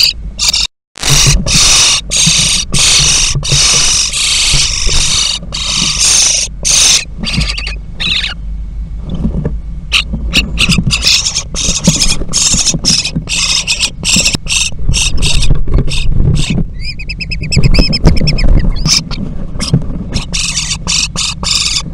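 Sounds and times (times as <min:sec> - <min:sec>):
nestlings rasping begging calls: 0:00.0 - 0:08.4, 0:09.9 - 0:21.9
birds rustling on nest: 0:01.0 - 0:07.8, 0:09.0 - 0:21.9.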